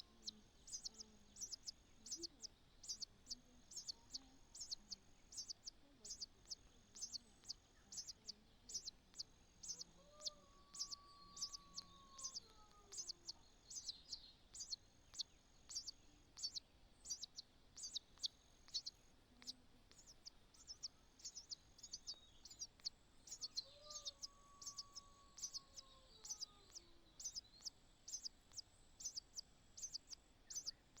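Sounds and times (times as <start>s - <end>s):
bird chirping rapidly: 0.0s - 31.0s.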